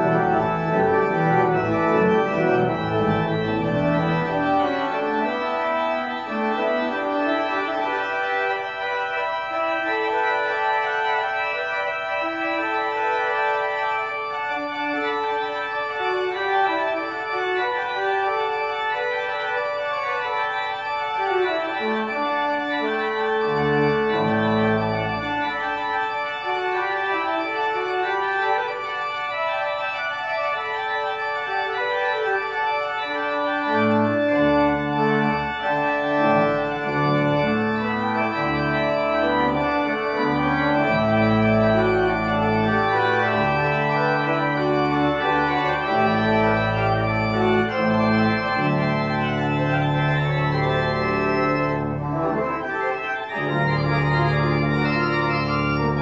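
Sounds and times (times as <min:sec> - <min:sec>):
church organ chords: 0:00.0 - 0:56.0
deep organ pedal bass: 0:00.0 - 0:56.0.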